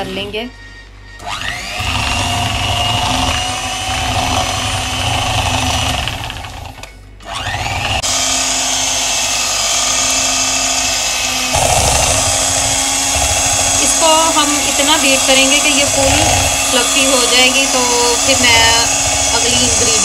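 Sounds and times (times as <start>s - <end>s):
electric hand mixer whining: 1.2s - 20.0s.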